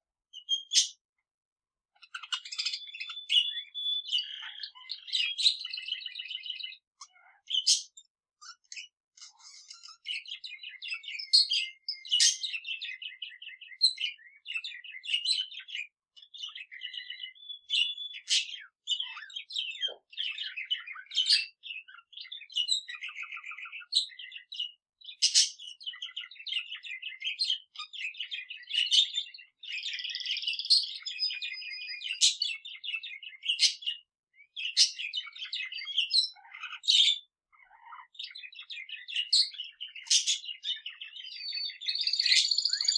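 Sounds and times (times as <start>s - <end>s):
canary singing: 0.3s - 1.0s, 1.9s - 42.9s.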